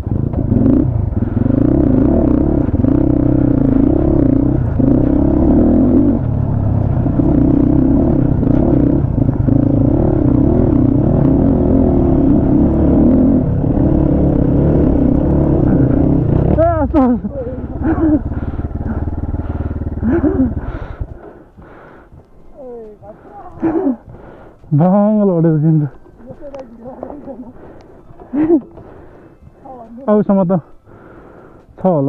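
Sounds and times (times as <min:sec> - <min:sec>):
motorcycle engine revving: 0:00.0 - 0:31.2.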